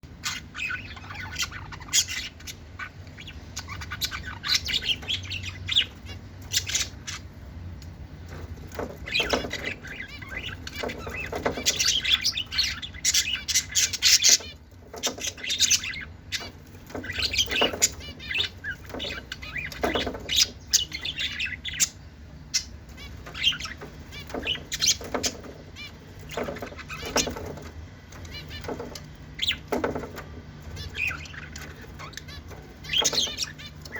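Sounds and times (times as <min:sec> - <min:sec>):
lovebirds chirping and squawking: 0:00.0 - 0:33.9.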